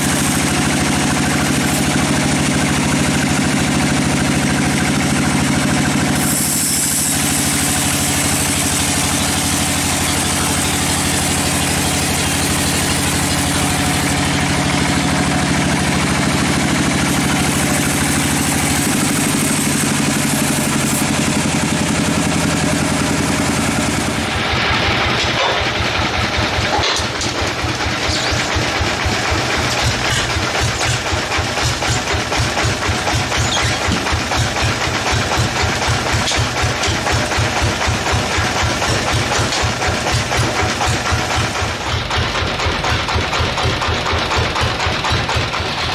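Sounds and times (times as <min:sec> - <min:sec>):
sawmill machinery engine drone: 0:00.0 - 0:45.9.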